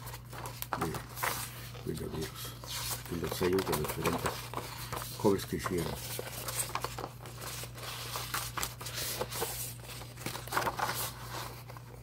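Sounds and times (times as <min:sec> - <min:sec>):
low electrical hum: 0:00.0 - 0:12.0
plastic sleeves rustling: 0:00.0 - 0:12.0.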